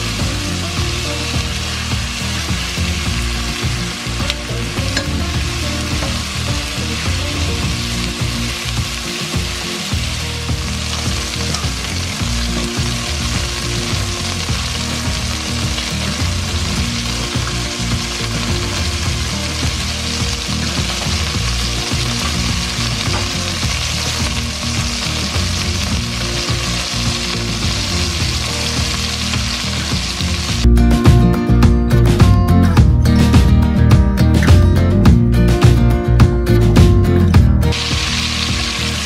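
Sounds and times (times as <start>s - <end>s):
chicken sizzling in a pot: 0.0s - 30.7s, 37.6s - 39.0s.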